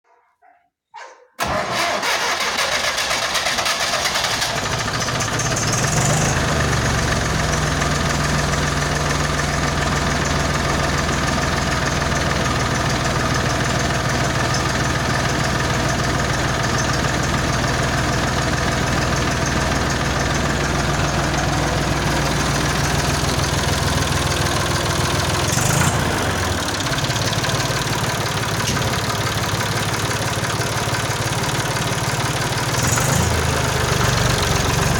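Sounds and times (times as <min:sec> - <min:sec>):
tractor diesel engine starting and idling: 0:01.4 - 0:34.9.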